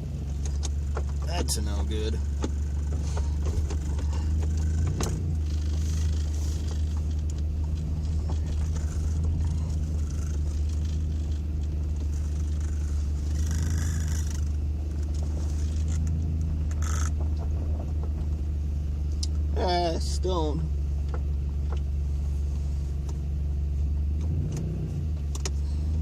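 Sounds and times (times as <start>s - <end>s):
truck engine low drone: 0.0s - 26.0s.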